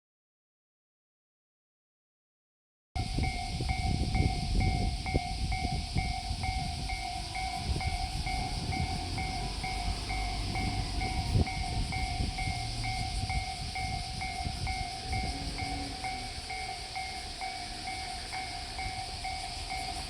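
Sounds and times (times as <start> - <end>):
level crossing warning bell: 3.0 - 20.0
train rumble: 3.0 - 20.0.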